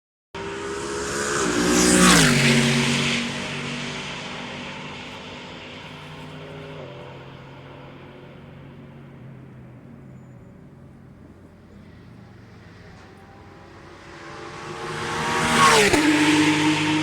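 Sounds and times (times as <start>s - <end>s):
race car engine passing: 0.4s - 17.0s.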